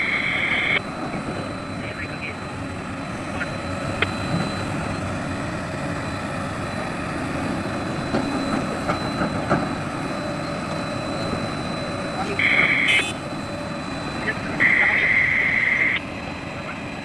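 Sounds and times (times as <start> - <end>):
excavator running: 0.0 - 17.0.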